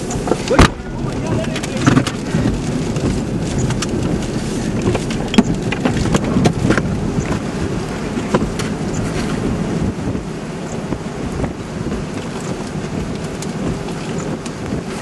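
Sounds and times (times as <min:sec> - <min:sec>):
road and wind rumble in car: 0:00.0 - 0:15.0.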